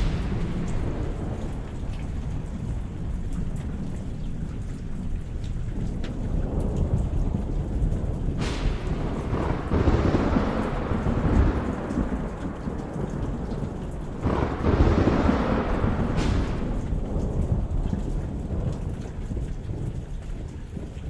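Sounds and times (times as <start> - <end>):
steady rain: 0.0 - 21.0
thunder rolling: 0.0 - 21.0.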